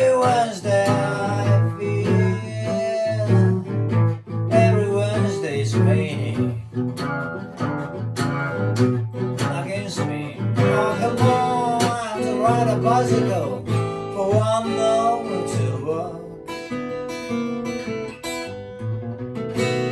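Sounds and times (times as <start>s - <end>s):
acoustic guitar fingerpicking blues: 0.0s - 19.9s.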